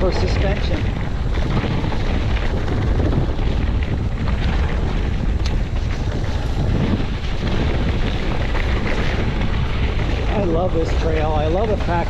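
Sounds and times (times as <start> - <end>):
bike tyre rumble on rocky trail: 0.0 - 12.0
wind buffeting microphone: 0.0 - 12.0.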